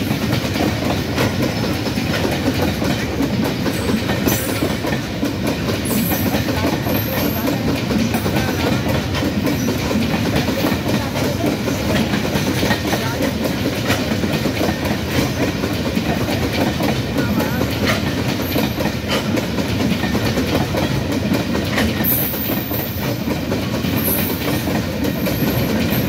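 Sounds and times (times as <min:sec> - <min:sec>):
freight train wheels rumbling: 0:00.0 - 0:26.0
wheels clacking over rail joints: 0:00.0 - 0:26.0.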